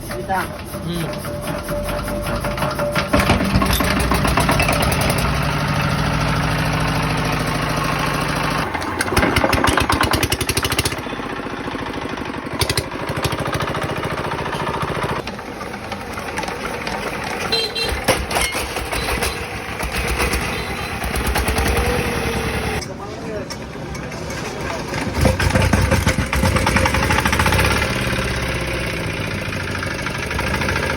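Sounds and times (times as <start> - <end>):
diesel engine knocking clatter: 0.0 - 22.8, 24.7 - 30.9.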